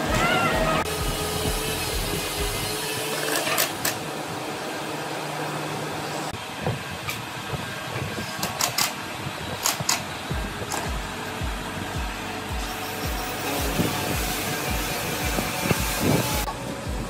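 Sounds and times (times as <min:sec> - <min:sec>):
workshop noise: 0:00.0 - 0:17.0.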